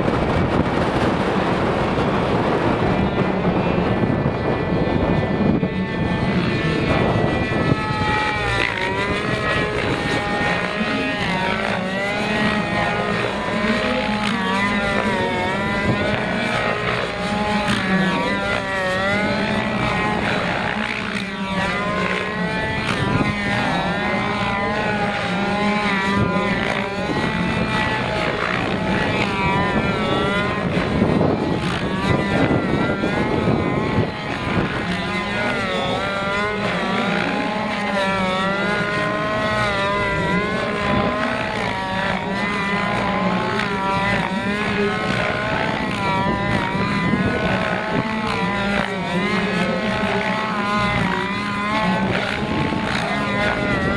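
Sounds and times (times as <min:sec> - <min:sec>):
model helicopter engine: 0:00.0 - 0:53.9
steady low hum: 0:00.0 - 0:53.9.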